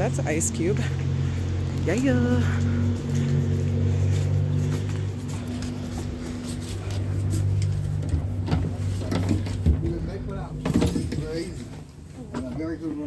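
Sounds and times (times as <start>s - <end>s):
rustles: 0.8s - 13.0s.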